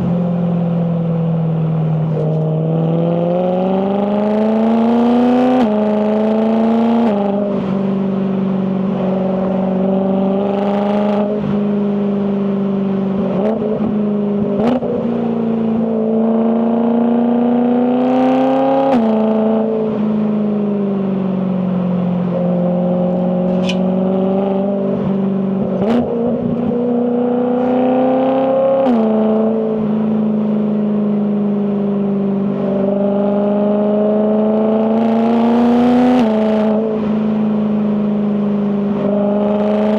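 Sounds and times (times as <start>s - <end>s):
car engine revving and shifting: 0.0s - 39.9s.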